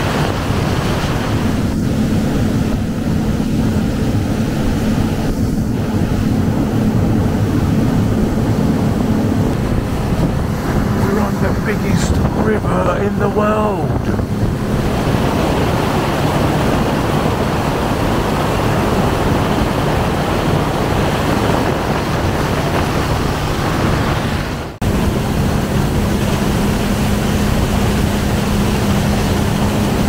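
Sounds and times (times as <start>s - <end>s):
speedboat engine hum: 0.0s - 30.0s
water rushing along hull: 0.0s - 30.0s.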